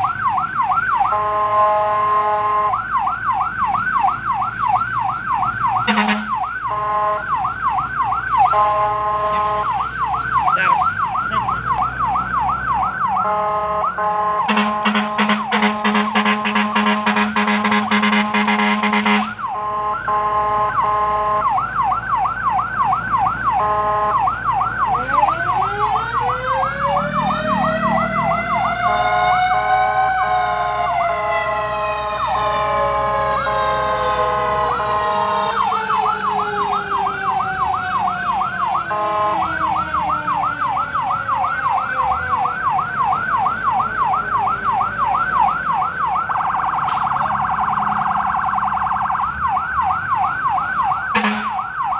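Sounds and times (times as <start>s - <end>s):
electronic siren yelp: 0.0s - 51.9s
siren wail: 0.0s - 51.9s.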